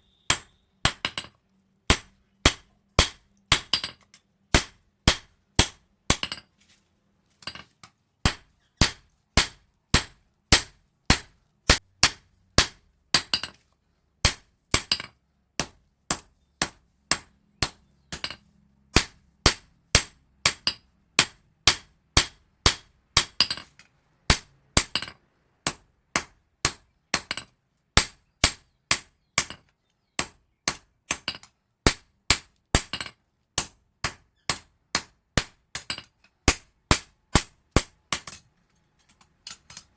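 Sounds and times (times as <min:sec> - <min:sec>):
hammer striking steel on anvil: 0:00.3 - 0:04.0, 0:04.6 - 0:06.4, 0:08.3 - 0:13.5, 0:14.2 - 0:18.4, 0:19.0 - 0:23.7, 0:24.3 - 0:39.9.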